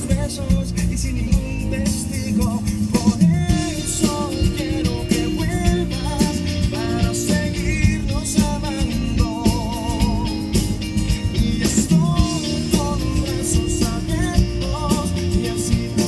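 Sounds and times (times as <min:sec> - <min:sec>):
love song with steady beat: 0:00.0 - 0:16.0.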